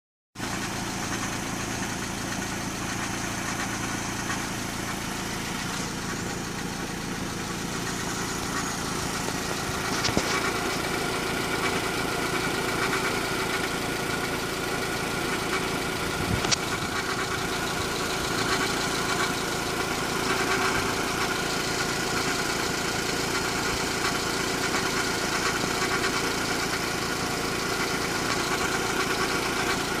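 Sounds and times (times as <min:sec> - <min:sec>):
car engine idling: 0:00.4 - 0:30.0
rapid engine tick: 0:00.4 - 0:30.0.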